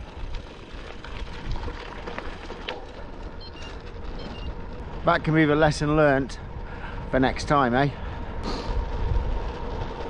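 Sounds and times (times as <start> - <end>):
bike tyres crackling on gravel: 0.0 - 10.0
wind rumbling on microphone: 0.0 - 10.0.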